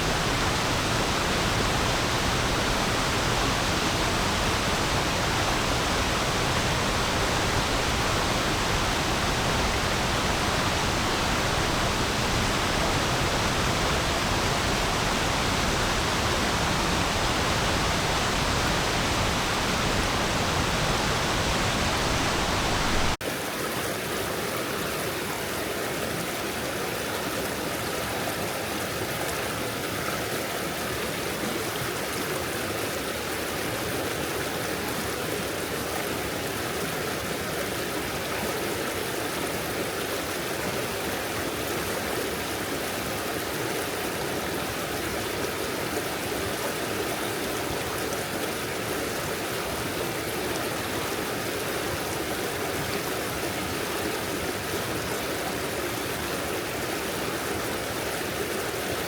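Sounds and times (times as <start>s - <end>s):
stream babbling over stones: 0.0s - 59.0s.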